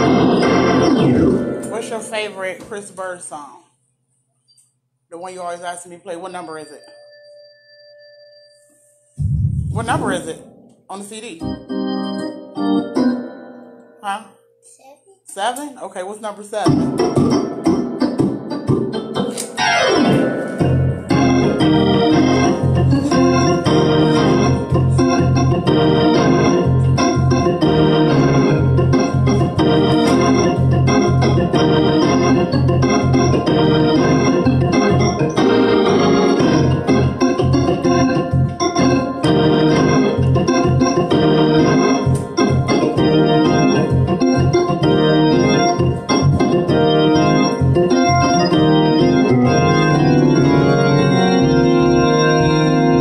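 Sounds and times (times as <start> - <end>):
electric organ playing chords: 0.0 - 2.4, 6.8 - 14.6, 16.7 - 53.0.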